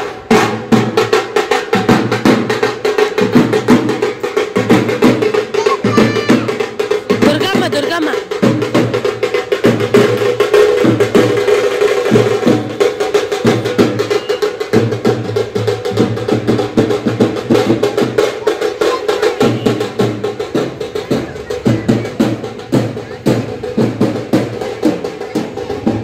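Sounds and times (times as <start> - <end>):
frame drums beaten fast: 0.0 - 26.0.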